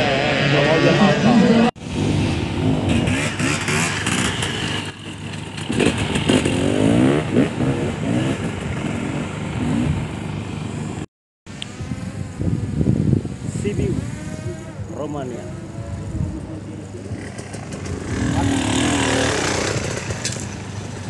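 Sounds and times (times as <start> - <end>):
motorcycle engine revving: 0.0 - 11.1, 11.7 - 21.0.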